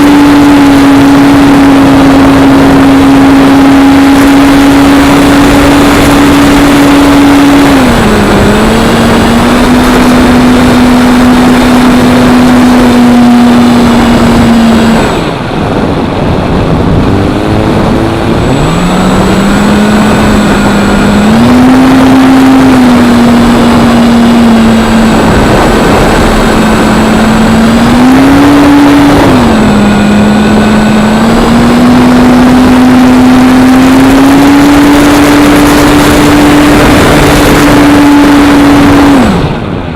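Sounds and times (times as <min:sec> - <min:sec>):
electric motor and propeller whine: 0:00.0 - 0:39.9
wind rushing: 0:00.0 - 0:39.9.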